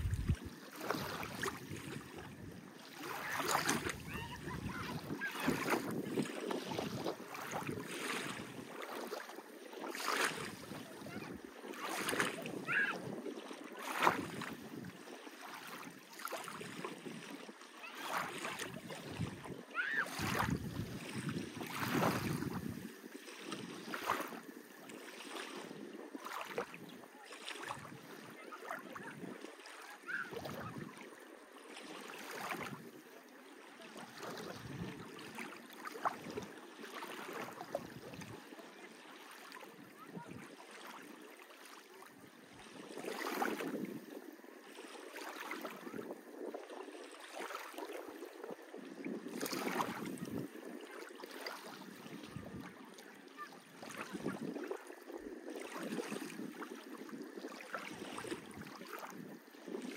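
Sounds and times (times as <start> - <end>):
small waves lapping and splashing: 0.0 - 59.9
wind: 0.0 - 59.9.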